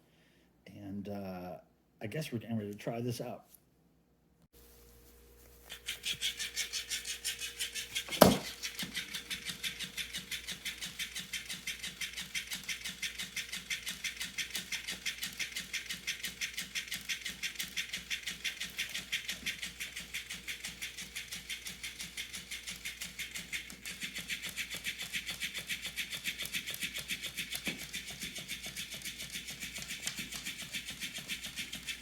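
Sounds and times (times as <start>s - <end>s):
toy mechanism clicking: 5.7s - 32.0s.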